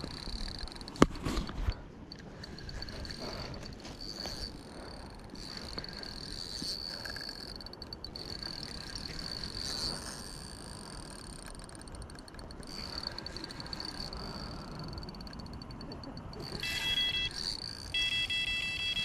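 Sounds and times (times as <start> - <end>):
insects trilling: 0.0 - 1.0, 2.1 - 19.0.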